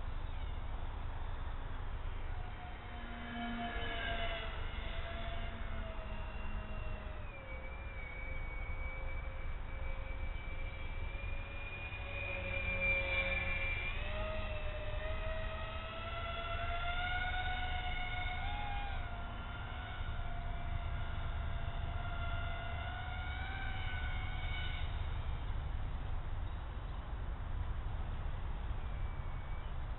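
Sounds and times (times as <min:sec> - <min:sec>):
propeller whine: 0:00.0 - 0:29.9
wind rumble on microphone: 0:00.0 - 0:29.9.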